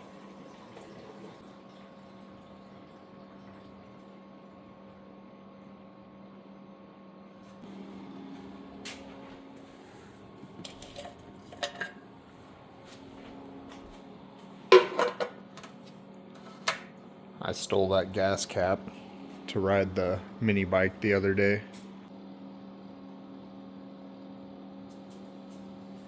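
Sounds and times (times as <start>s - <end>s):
steady low hum: 2.4s - 26.0s.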